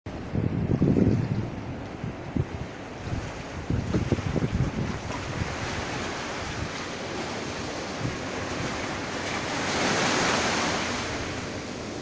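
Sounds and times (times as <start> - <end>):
ocean surf washing onto beach: 0.1 - 12.0
wave breaking: 0.3 - 12.0.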